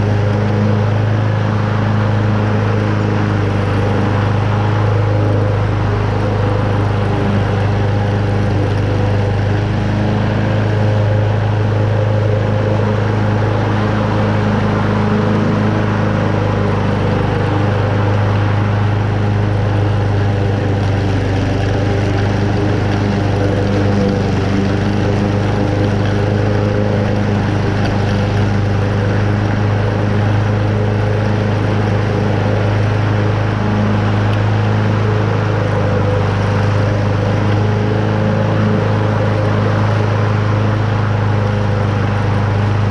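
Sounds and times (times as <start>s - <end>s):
lawn mower cutting grass: 0.0s - 42.9s.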